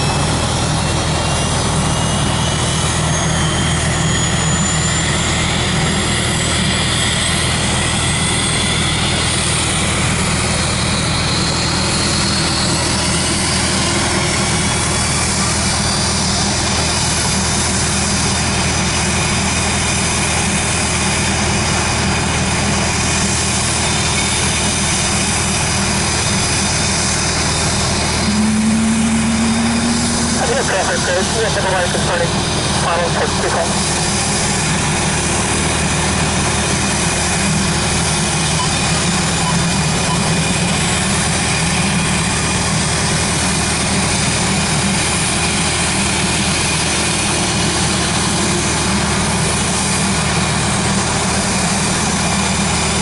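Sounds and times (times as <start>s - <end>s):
low hum: 0.0s - 52.9s
jet engine whine: 0.0s - 53.0s.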